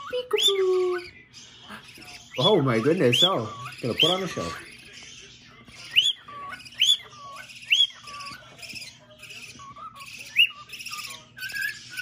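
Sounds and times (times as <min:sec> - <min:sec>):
cockatiel whistling: 0:00.0 - 0:05.0, 0:05.7 - 0:12.0
soft chattering warble: 0:00.0 - 0:12.0.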